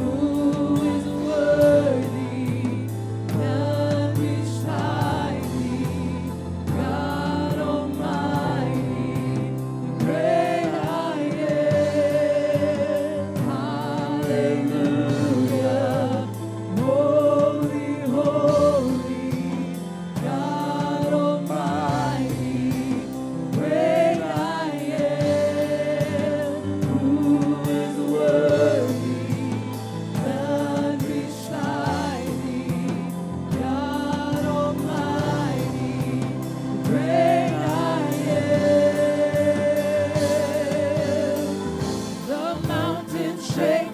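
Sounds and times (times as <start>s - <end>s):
gospel choir singing: 0.0s - 43.9s
light drum beat: 0.0s - 43.9s
organ chords: 0.0s - 43.9s.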